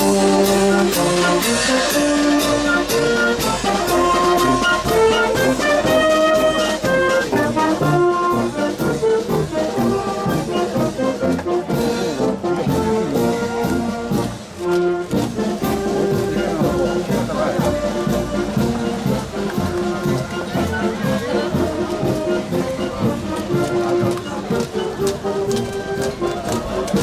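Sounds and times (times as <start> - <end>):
brass band playing a march: 0.0 - 27.0
steady drum beat: 0.0 - 27.0.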